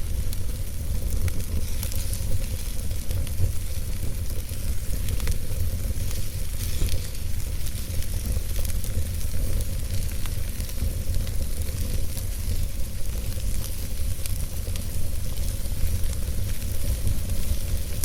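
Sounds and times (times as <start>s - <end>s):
fire crackling and hissing: 0.0s - 18.0s
low fire rumble: 0.0s - 18.0s
sharp fire pops: 0.0s - 18.0s.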